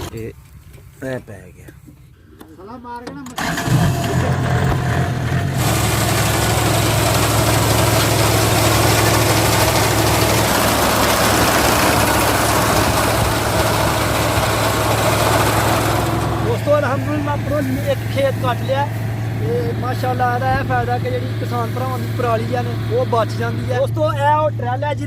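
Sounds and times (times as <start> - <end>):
harvester engine running: 3.3 - 25.0
machinery rushing noise: 3.4 - 23.8.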